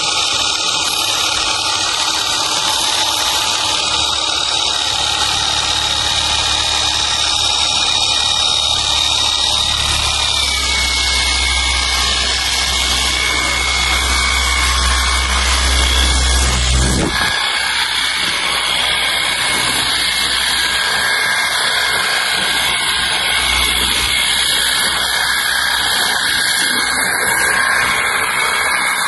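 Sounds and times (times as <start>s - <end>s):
deep hum: 0.0s - 27.0s
pressure washer motor whining: 0.0s - 29.0s.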